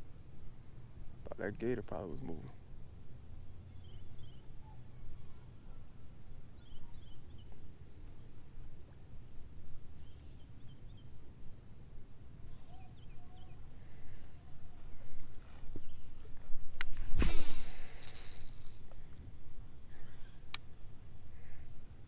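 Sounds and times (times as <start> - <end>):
small birds chirping: 3.3 - 22.0.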